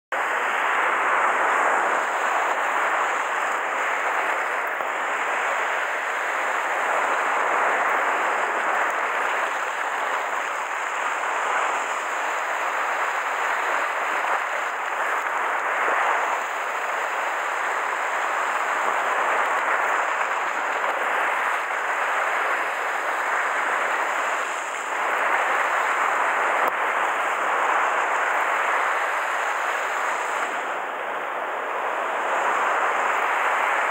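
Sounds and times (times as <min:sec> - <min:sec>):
surf washing against rocks: 0:00.2 - 0:33.9.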